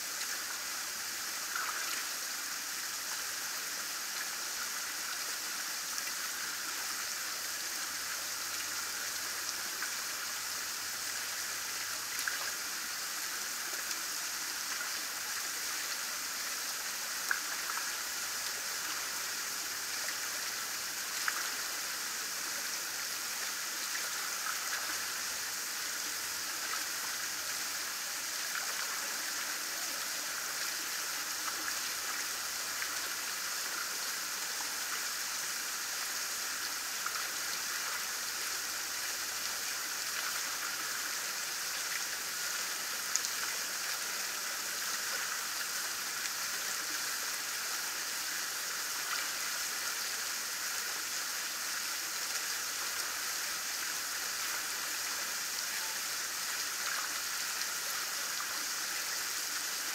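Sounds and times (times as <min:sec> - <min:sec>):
water flowing over concrete steps: 0:00.0 - 0:59.9.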